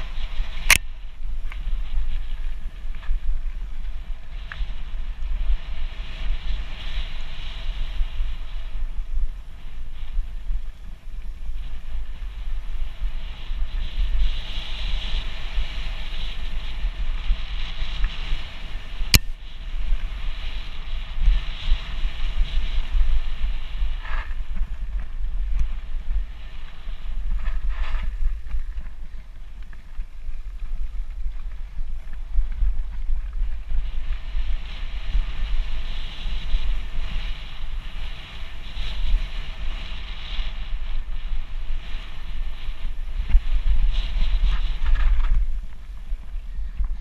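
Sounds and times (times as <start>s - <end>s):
bike tyres rolling over gravel: 0.0s - 47.0s
wind buffeting microphone: 0.0s - 47.0s.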